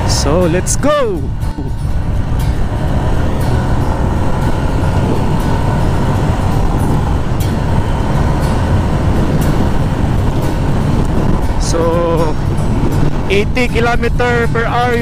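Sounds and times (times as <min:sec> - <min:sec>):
motorcycle riding noise: 0:00.0 - 0:15.0
wind rumble on microphone: 0:00.0 - 0:15.0.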